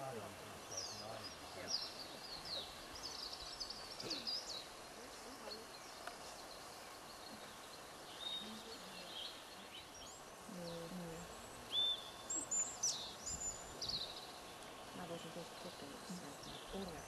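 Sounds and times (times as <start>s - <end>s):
small birds chirping: 0.0s - 17.0s
steady background noise: 0.0s - 17.0s.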